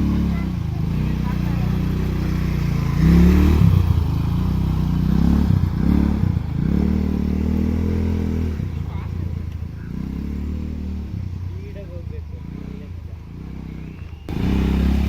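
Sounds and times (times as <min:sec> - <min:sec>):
go-kart engine revving: 0:00.0 - 0:15.0.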